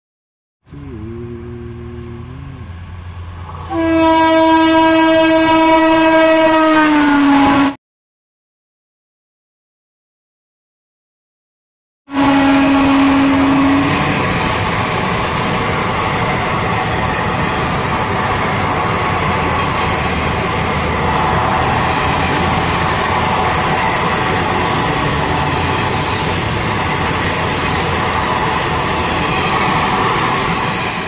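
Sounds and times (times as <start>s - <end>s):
train passing at high speed: 0.9s - 7.8s, 12.1s - 31.0s.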